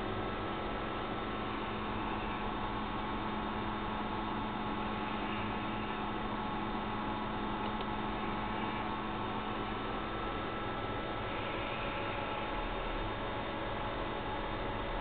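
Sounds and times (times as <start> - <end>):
steady hum with hiss: 0.0 - 15.0.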